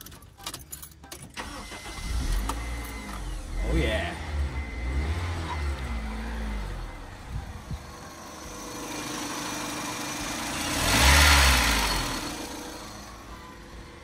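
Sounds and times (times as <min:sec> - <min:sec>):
car engine idling: 0:01.4 - 0:14.0.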